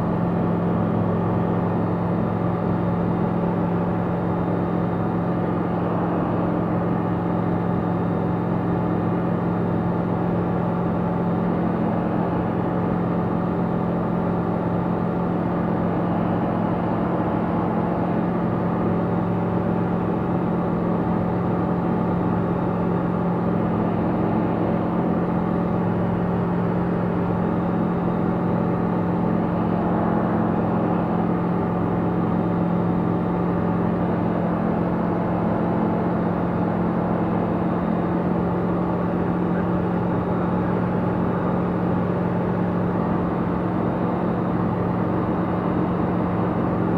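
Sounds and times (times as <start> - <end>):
aircraft engine and propeller drone: 0.0 - 46.9.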